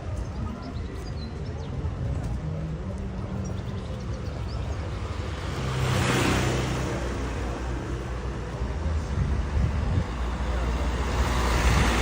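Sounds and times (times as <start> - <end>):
road vehicle passing: 2.0 - 12.0.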